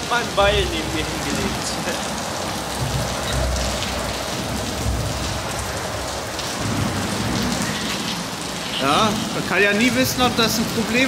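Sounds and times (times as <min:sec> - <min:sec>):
deep traffic rumbles: 0:00.0 - 0:11.0
motorway traffic rushing: 0:00.0 - 0:11.0.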